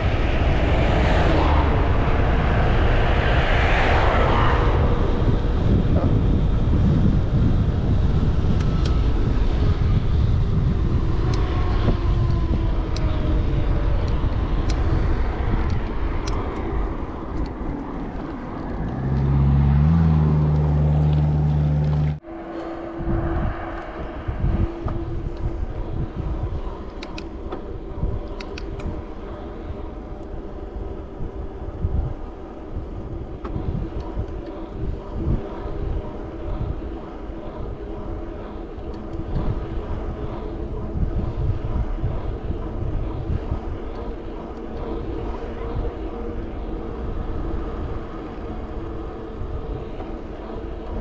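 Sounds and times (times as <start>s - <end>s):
passing motor traffic: 0.0s - 51.0s
vehicle engine hum: 0.0s - 51.0s
wind on camera microphone: 0.0s - 51.0s.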